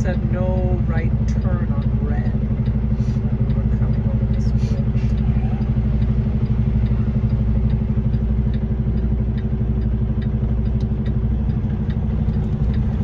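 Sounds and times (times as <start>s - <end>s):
truck diesel engine idling: 0.0s - 13.0s
turn signal ticking: 0.0s - 13.0s.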